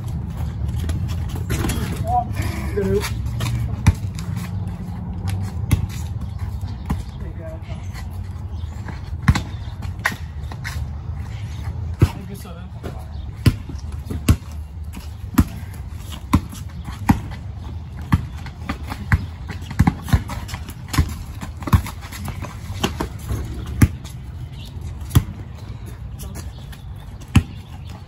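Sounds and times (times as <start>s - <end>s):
basketball bouncing on concrete: 0.0s - 2.2s, 2.8s - 7.2s, 8.2s - 10.8s, 11.9s - 28.0s.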